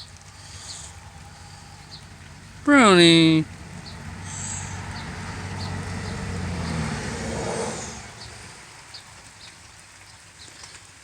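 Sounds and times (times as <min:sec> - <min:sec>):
vehicle passing by: 0:00.0 - 0:09.6.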